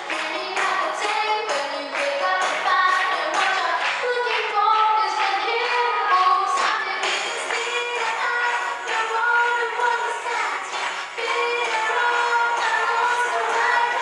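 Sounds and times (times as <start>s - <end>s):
backing music with steady beat: 0.0s - 14.0s
girl singing into a microphone: 0.0s - 14.0s.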